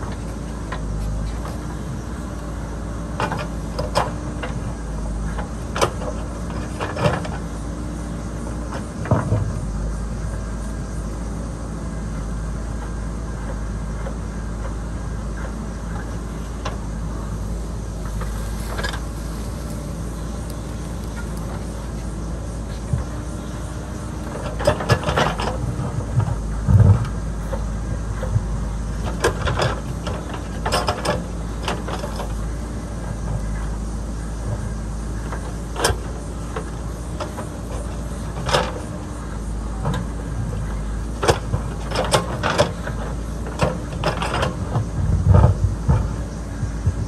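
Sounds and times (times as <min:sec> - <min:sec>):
clanks from digger arm and bucket: 0:00.0 - 0:09.6, 0:12.8 - 0:47.0
backhoe diesel engine running: 0:00.0 - 0:47.0.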